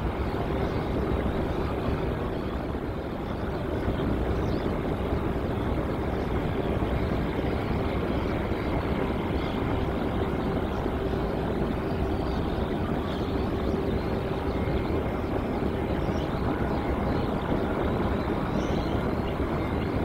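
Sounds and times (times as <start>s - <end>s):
aircraft engine roar: 0.0s - 20.0s.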